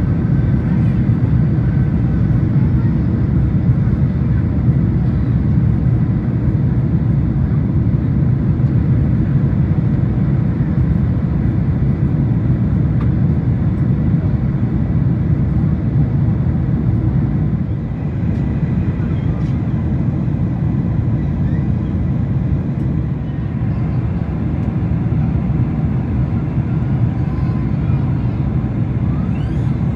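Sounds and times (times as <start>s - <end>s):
jet engine and airflow rumble: 0.0s - 29.9s.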